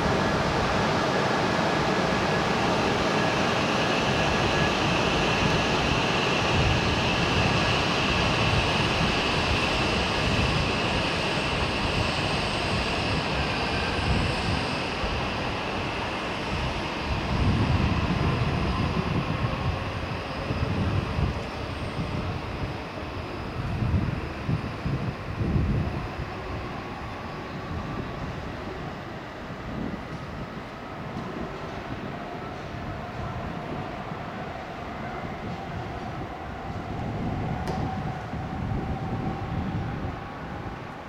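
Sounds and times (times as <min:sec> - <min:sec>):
train running hiss with whine: 0:00.0 - 0:41.0.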